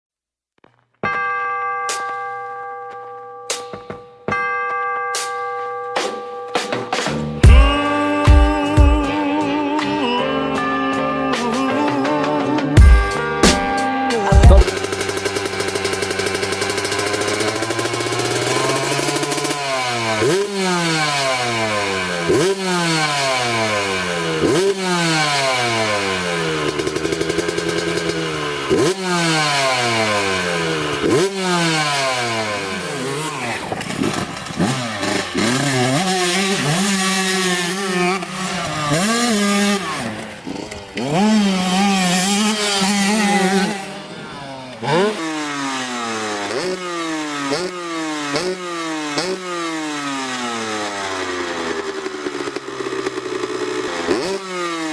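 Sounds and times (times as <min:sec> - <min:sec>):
dirt bike engine revving: 0:07.1 - 0:54.9.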